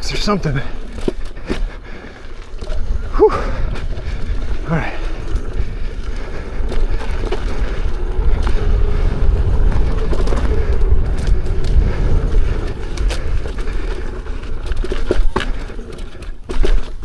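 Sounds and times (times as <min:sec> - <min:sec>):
tyre rumble: 0:00.0 - 0:17.0
wind buffeting on microphone: 0:00.0 - 0:17.0.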